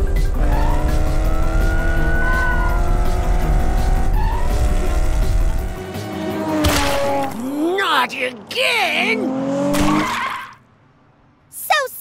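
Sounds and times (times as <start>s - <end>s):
cartoon race car engine: 0.2s - 10.6s.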